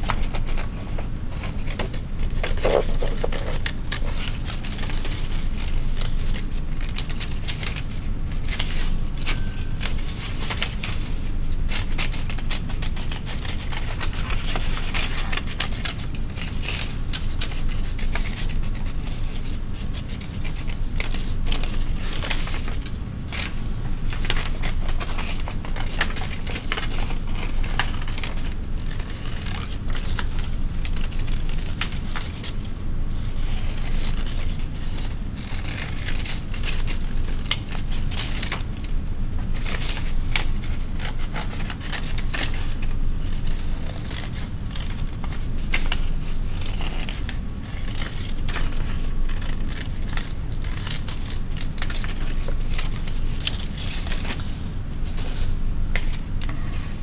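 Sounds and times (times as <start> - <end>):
scissors snipping paper: 0.0 - 32.6, 33.2 - 56.9
steady low hum: 0.0 - 57.0
stiff paper crackling: 0.0 - 57.0.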